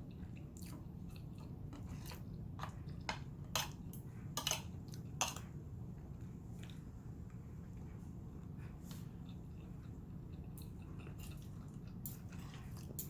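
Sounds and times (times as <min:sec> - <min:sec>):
low room hum: 0:00.0 - 0:13.0
person chewing food: 0:00.0 - 0:13.0.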